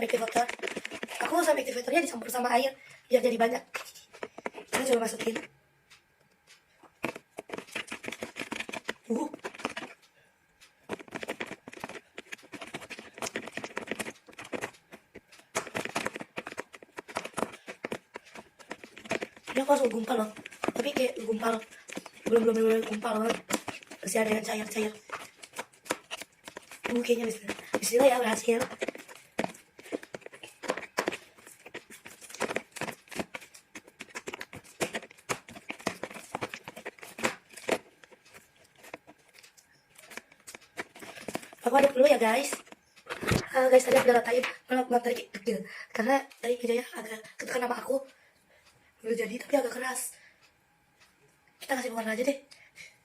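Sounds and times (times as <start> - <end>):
slime stirred with wet squishes: 0.0 - 5.5, 6.5 - 45.2.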